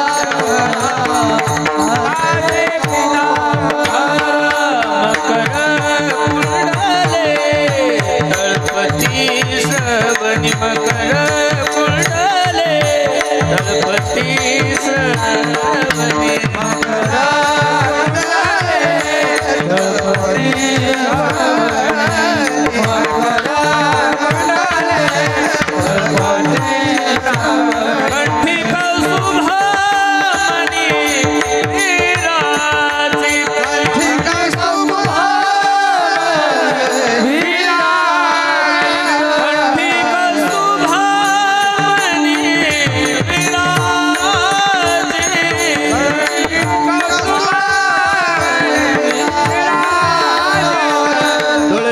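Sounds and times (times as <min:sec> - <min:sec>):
person singing: 0:00.0 - 0:51.9.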